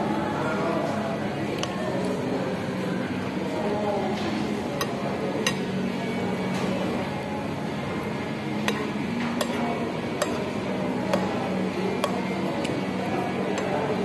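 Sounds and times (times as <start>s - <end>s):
background murmur: 0.0s - 14.0s.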